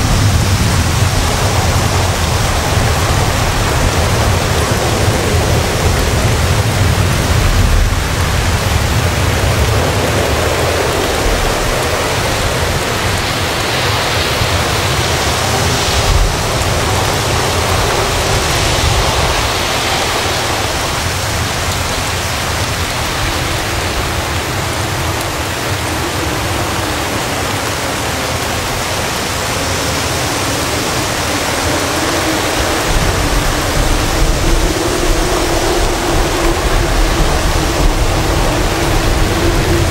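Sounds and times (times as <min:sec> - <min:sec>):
gusty wind rumbling: 0:00.0 - 0:39.9
heavy rain downpour: 0:00.0 - 0:39.9.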